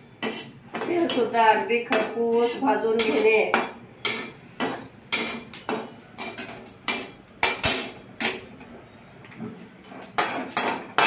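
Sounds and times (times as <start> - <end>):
spoon scraping metal pan: 0.0 - 9.0, 9.6 - 11.0.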